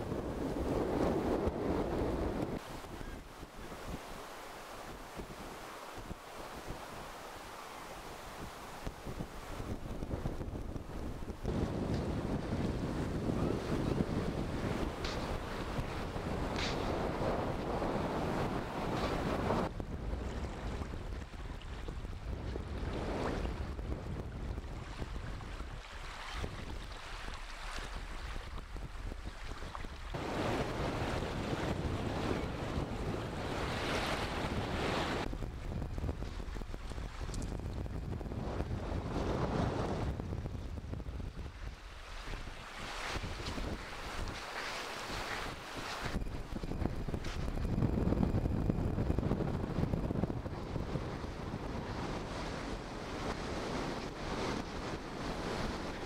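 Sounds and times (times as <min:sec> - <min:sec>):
wind buffeting microphone: 0:00.0 - 0:04.2, 0:08.2 - 0:56.0
low surf: 0:00.0 - 0:26.8, 0:30.1 - 0:56.0
water lapping on sandy shore: 0:00.0 - 0:38.4, 0:41.0 - 0:47.6
rush of wind: 0:00.0 - 0:56.0.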